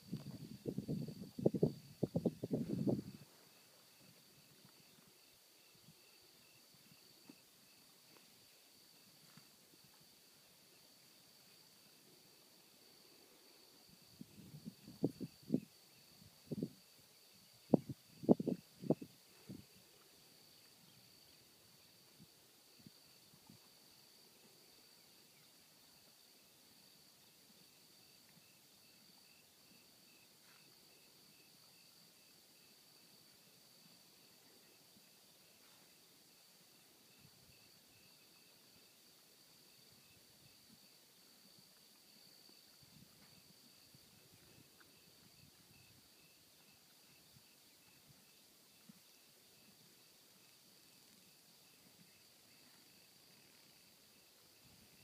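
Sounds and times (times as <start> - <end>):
cricket chirping: 0.0 - 55.0
insects droning: 0.0 - 55.0.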